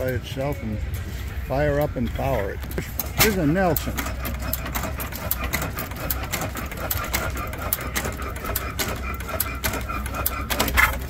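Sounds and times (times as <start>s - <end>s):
gas engine clattering: 0.0s - 11.0s.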